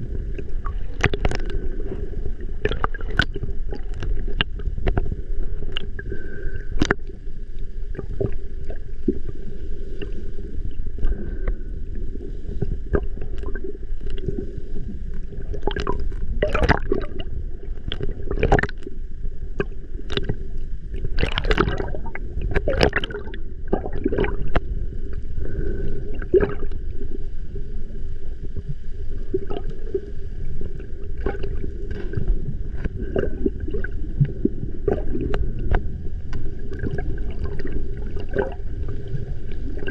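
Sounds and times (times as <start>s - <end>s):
splashes and bubble bursts: 0.0s - 7.1s, 12.2s - 19.0s, 19.6s - 27.0s, 29.2s - 39.9s
faint steady hum: 0.0s - 39.9s
water sloshing and gurgling: 0.0s - 39.9s.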